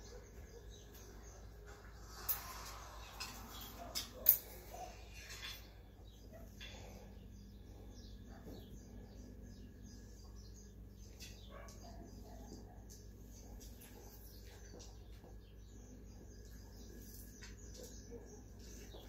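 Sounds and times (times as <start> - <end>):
small birds chirping faintly: 0.0 - 19.0.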